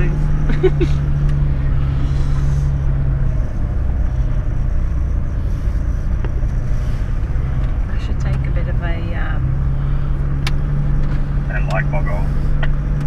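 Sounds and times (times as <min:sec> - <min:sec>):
car engine running at low speed: 0:00.0 - 0:13.0.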